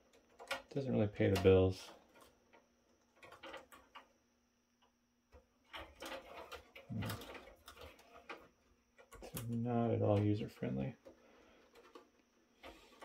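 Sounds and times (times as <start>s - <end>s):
light clicks and rattles: 0.0s - 4.2s, 4.8s - 13.0s.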